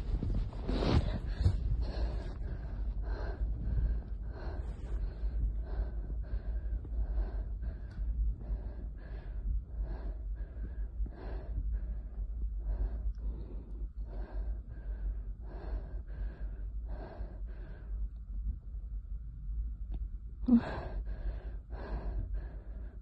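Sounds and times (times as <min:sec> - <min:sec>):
woman breathing hard: 0:00.0 - 0:18.2, 0:20.4 - 0:23.0
low rumble: 0:00.0 - 0:23.0.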